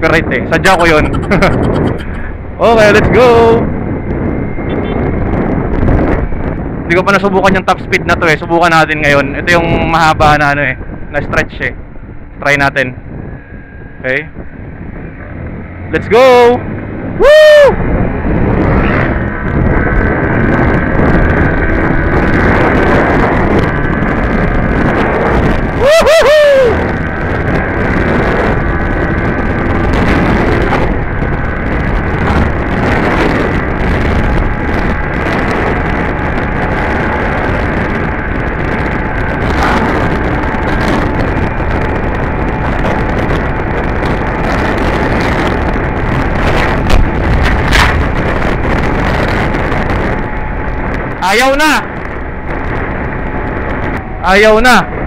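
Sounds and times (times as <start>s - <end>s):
motorcycle engine at full throttle: 0.0s - 55.0s
wind rushing over microphone: 0.0s - 55.0s.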